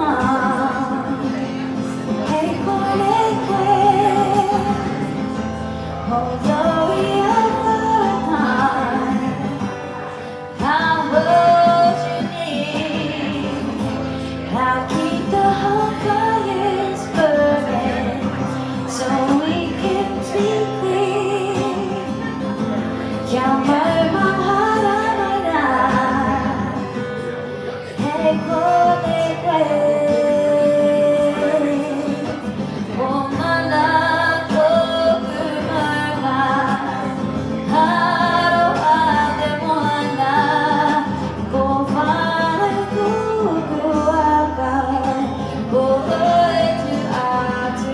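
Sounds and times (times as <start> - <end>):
woman singing: 0.0 - 47.9.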